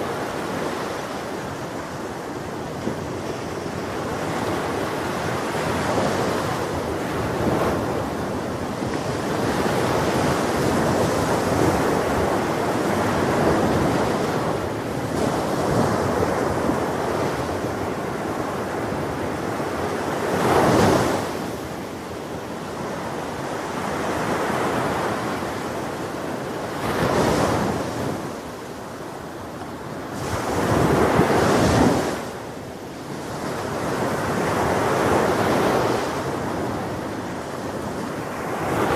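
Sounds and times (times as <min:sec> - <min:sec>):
ocean waves breaking on beach: 0:00.0 - 0:38.9
wind on microphone: 0:00.0 - 0:38.9.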